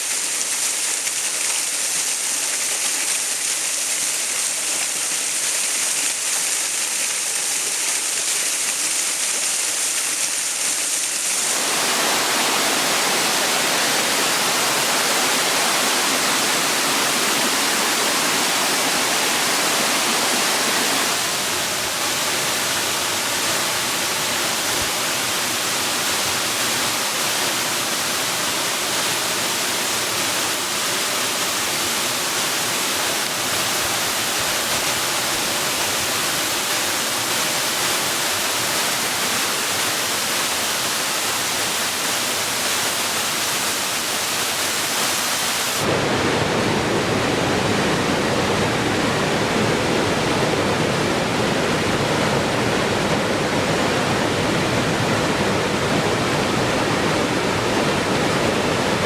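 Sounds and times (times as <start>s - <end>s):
rushing falling water: 0.0s - 59.0s.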